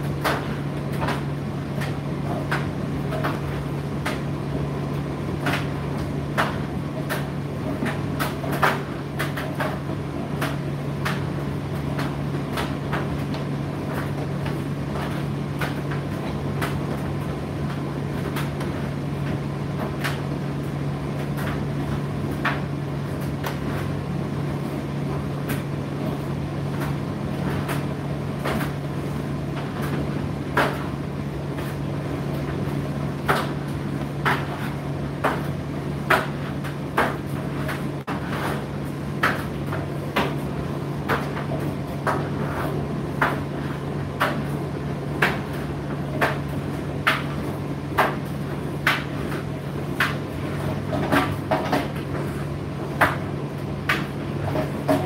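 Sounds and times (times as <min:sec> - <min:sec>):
tumble dryer motor hum: 0:00.0 - 0:55.0.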